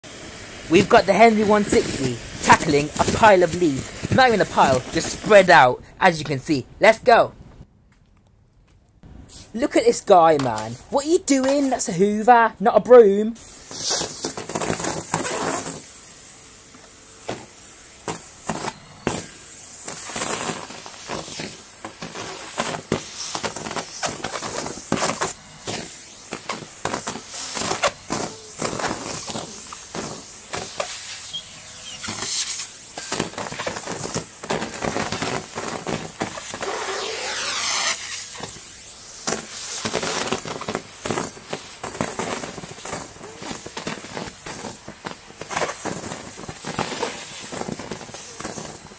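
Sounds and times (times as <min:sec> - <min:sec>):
vacuum cleaner running: 0:00.0 - 0:05.5, 0:13.4 - 0:48.9.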